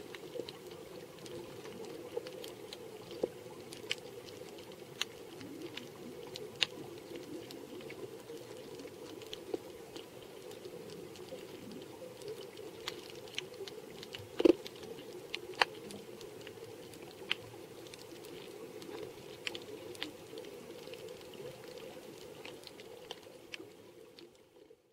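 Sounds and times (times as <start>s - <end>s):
sharp clicks and crackles: 0.0s - 24.4s
low underwater hum: 0.0s - 24.9s.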